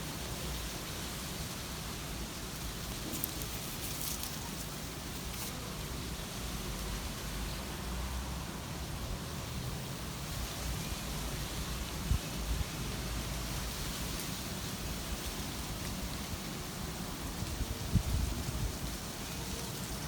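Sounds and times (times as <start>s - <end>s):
outdoor garden hiss: 0.0s - 20.0s.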